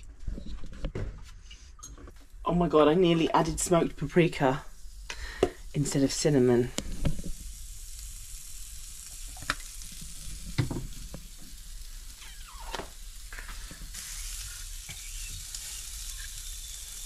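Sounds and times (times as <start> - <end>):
porridge hissing in a pan: 2.9 - 17.0.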